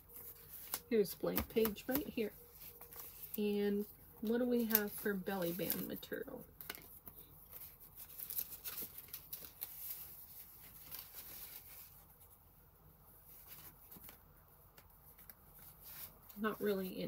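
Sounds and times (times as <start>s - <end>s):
paper rustling: 0.1s - 12.4s, 13.2s - 16.8s.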